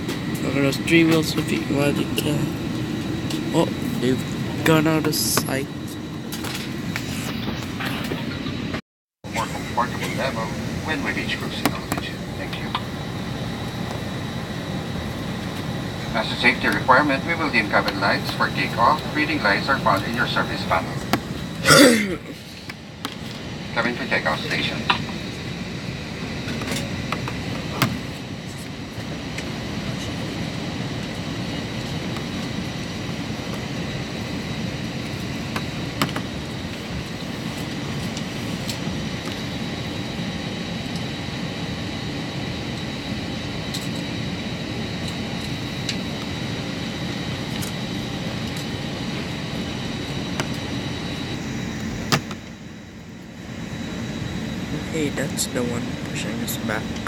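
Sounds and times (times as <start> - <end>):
air conditioning hum: 0.0 - 57.0
high whine: 0.0 - 57.0.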